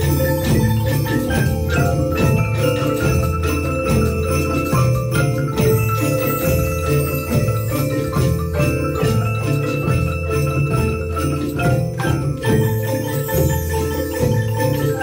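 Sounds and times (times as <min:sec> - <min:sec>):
children's mallet percussion ensemble: 0:00.0 - 0:15.0.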